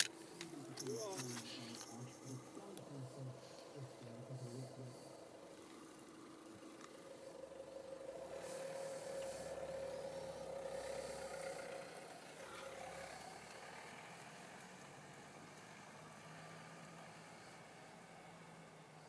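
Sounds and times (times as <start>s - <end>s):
distant engine hum: 0.0s - 19.0s
faint low hum: 0.0s - 19.0s.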